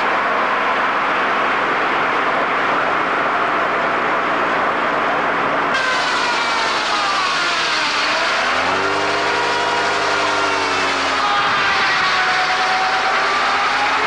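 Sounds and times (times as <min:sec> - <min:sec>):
low engine-like hum: 0:00.0 - 0:14.0
sawmill cutting a log: 0:00.0 - 0:14.0.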